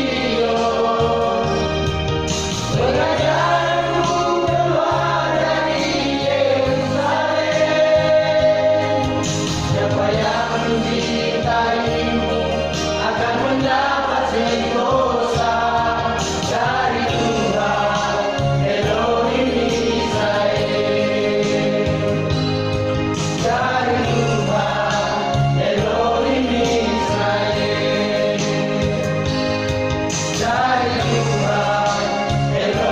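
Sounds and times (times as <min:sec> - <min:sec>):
group singing in harmony: 0:00.0 - 0:32.9.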